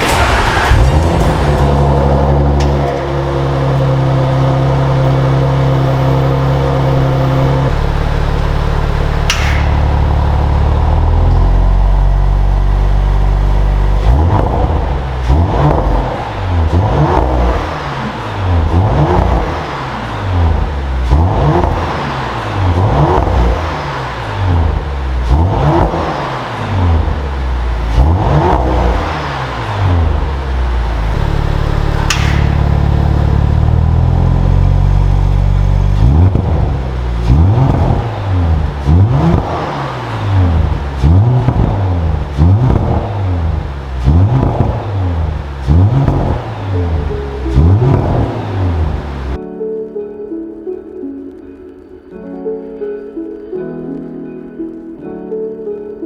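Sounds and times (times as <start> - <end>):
car engine idling and revving: 0.0 - 49.4.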